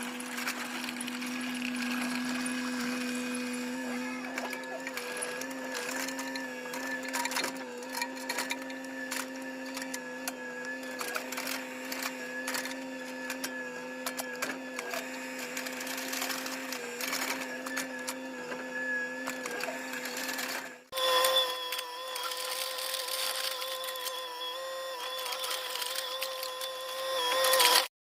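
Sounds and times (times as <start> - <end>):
machine humming: 0.0 - 27.9.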